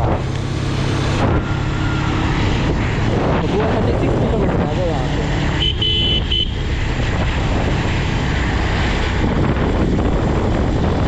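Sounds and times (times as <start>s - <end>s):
road noise: 0.0s - 11.0s
wind on microphone: 0.0s - 11.0s.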